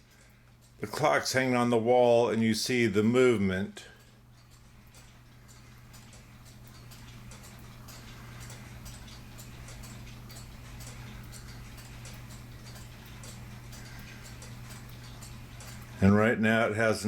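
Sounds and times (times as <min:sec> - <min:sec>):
clock ticking: 0:00.0 - 0:17.0
steady low hum: 0:00.0 - 0:17.0.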